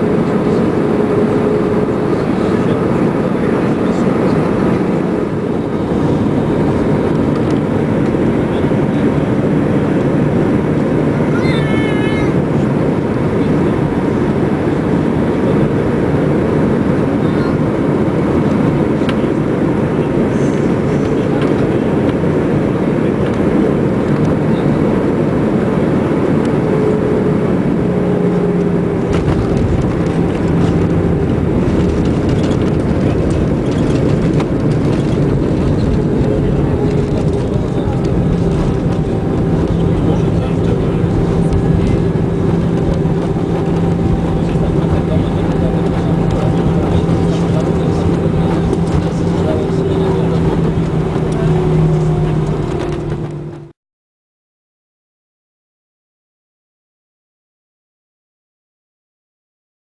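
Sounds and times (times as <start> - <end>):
airplane cabin engine rush: 0.0 - 53.8.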